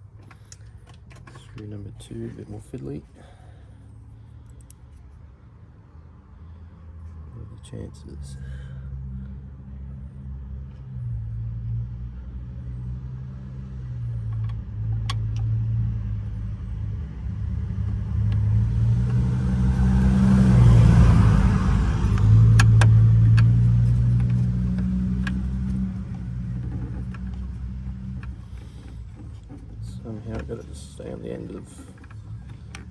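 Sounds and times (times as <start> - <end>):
vehicle passing by: 6.0 - 32.9.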